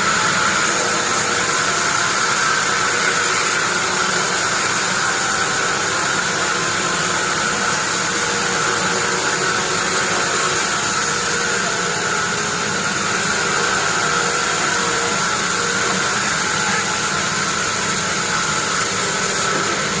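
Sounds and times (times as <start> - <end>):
band sawmill machine running: 0.0 - 20.0.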